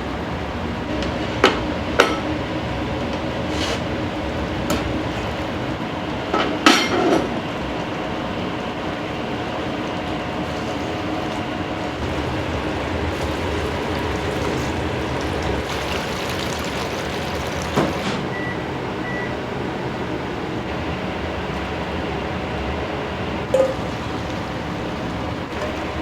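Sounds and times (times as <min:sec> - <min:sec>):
hum of kitchen fans: 0:00.0 - 0:26.0.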